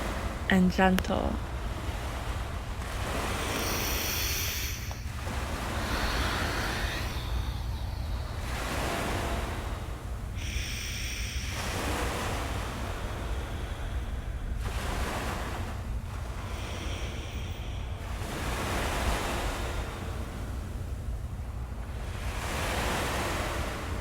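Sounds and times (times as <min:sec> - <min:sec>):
ocean waves washing in: 0:00.0 - 0:24.0
steady low rumble: 0:00.0 - 0:24.0.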